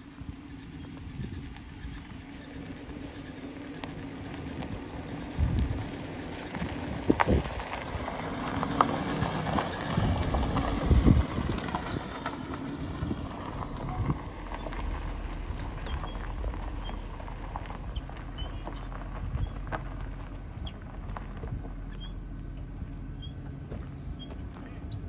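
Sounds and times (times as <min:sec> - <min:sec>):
car engine running: 0:00.0 - 0:25.0
tyres crunching on gravel: 0:00.3 - 0:25.0.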